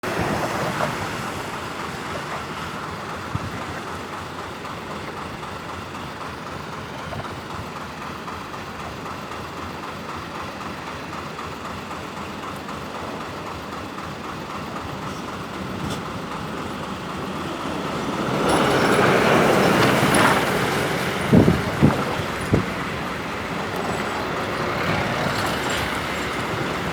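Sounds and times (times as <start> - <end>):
rumble of passing vehicles: 0.0 - 26.9.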